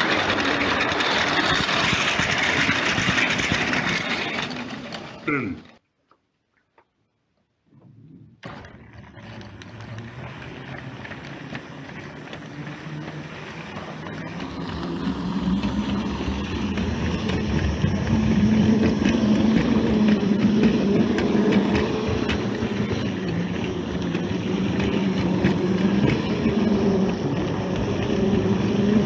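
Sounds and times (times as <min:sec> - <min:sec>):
train running with rattling clicks: 0:00.0 - 0:05.8, 0:08.4 - 0:29.0.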